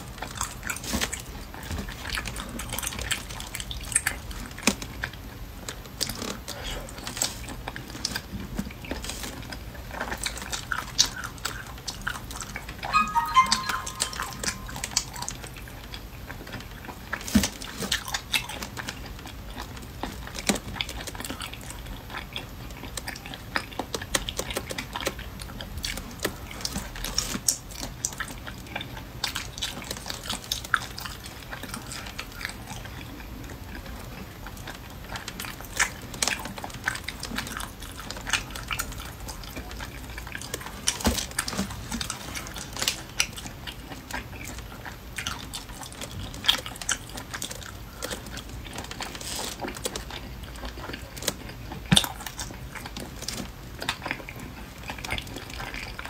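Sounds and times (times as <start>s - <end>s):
wet chewing and lip smacking: 0.0s - 56.0s.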